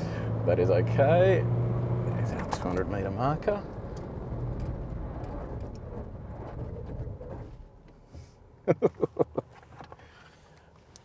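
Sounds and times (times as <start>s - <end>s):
diesel engine in cabin: 0.0s - 11.0s.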